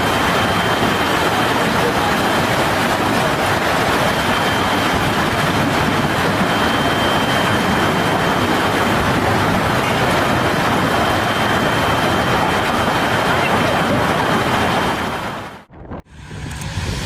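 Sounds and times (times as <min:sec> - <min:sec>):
heavy rain: 0:00.0 - 0:15.7
rushing wind: 0:00.0 - 0:17.0.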